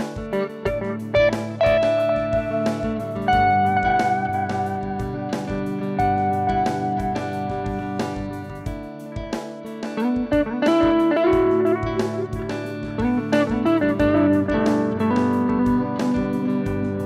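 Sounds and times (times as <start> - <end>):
drum machine beat: 0.0 - 17.0
electric guitar with delay: 0.0 - 17.0.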